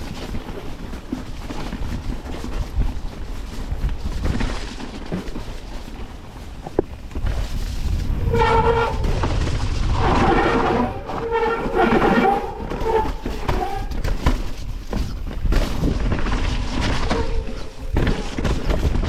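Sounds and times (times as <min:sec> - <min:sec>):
rumbling wind and trail noise: 0:00.0 - 0:19.0.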